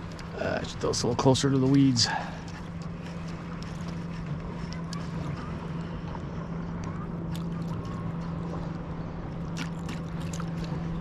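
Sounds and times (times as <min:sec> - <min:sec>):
light water splashes: 0:00.0 - 0:11.0
small waves lapping against hull: 0:00.0 - 0:11.0
steady low hum: 0:00.0 - 0:11.0.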